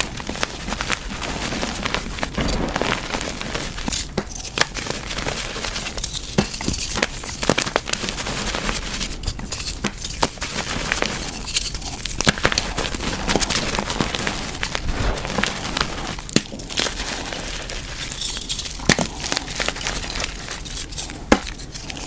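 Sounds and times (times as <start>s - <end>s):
chalk crunching and cracking: 0.0s - 22.0s
crumbling crackle: 0.0s - 22.0s.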